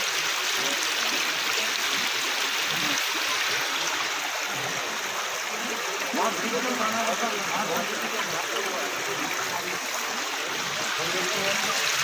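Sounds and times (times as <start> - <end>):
water rushing through drain: 0.0 - 12.0.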